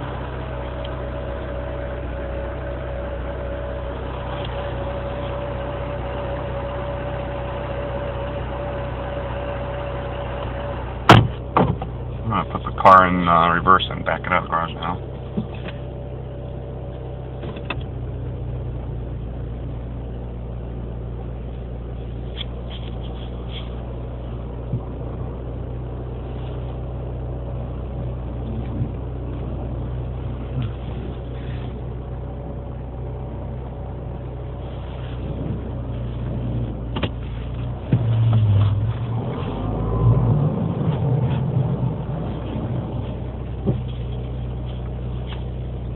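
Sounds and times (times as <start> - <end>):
car engine running with steady hum: 0.0 - 45.9.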